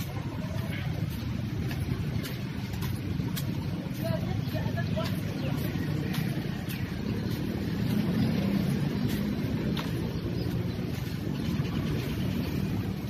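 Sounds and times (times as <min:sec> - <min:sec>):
vehicle engines and traffic rumble: 0:00.0 - 0:13.0.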